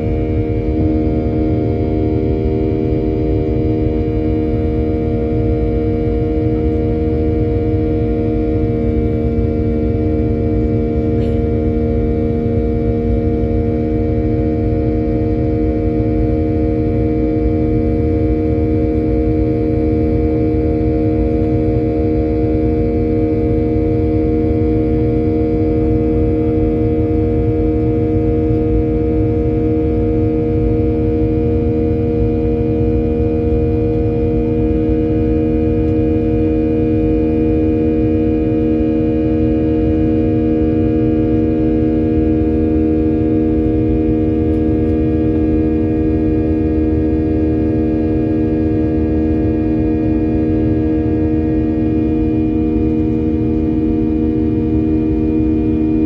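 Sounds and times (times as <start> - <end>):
airplane cabin airflow rumble: 0.0 - 56.0
jet engines droning: 0.0 - 56.0.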